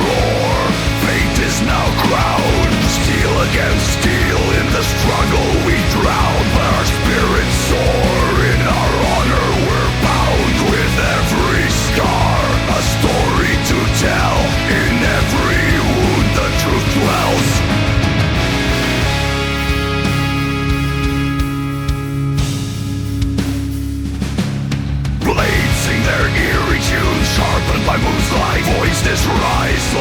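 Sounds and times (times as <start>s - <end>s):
dense drumming: 0.0s - 30.0s
distorted metal guitars: 0.0s - 30.0s.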